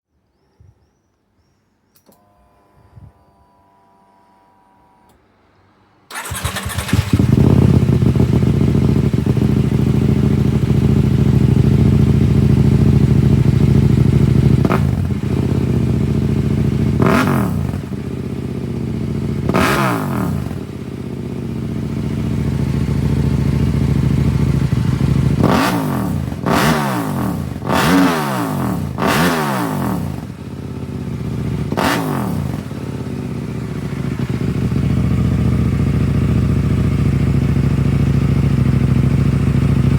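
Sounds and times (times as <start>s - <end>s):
motorcycle engine idling and revving: 6.1s - 39.9s.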